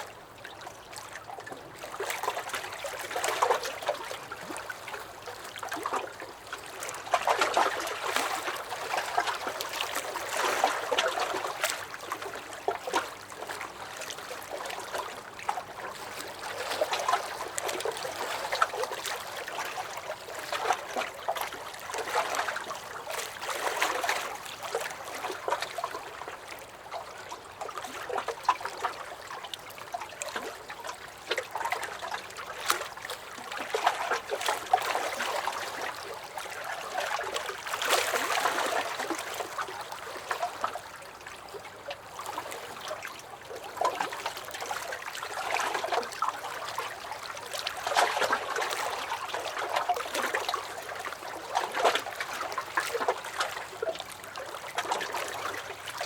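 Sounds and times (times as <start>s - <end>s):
water trickling and gurgling: 0.0s - 56.0s
waves lapping against wooden dock: 0.0s - 56.0s.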